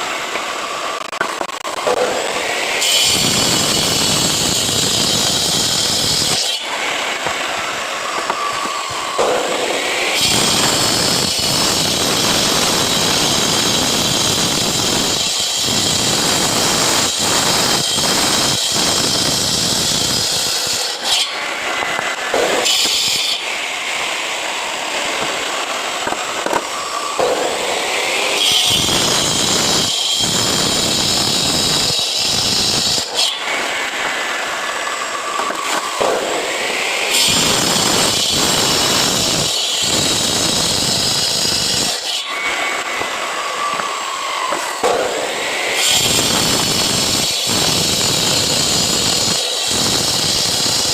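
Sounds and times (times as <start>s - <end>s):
power cutter sawing concrete: 0.0s - 50.9s.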